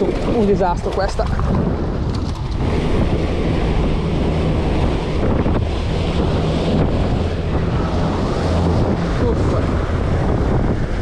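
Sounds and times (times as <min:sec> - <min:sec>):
churning boat wake: 0:00.0 - 0:11.0
outboard motors humming: 0:00.0 - 0:11.0
wind buffeting microphone: 0:00.0 - 0:11.0.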